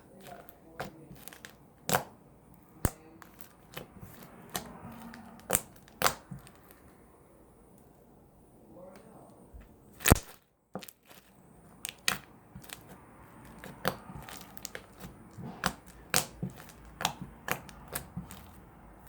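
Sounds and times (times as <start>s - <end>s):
slime squished by fingers: 0.0s - 7.0s, 9.9s - 19.0s.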